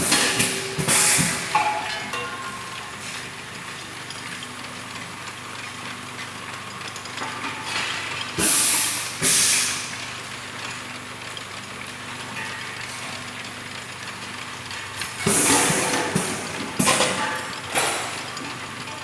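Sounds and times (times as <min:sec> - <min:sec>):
machinery humming: 0:00.0 - 0:10.6, 0:11.2 - 0:19.0.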